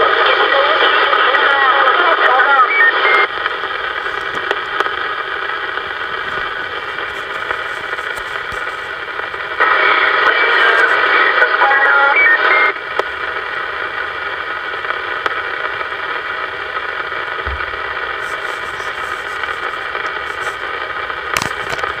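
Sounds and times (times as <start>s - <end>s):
garbled radio signal: 0.0s - 22.0s
radio static hiss: 0.0s - 22.0s.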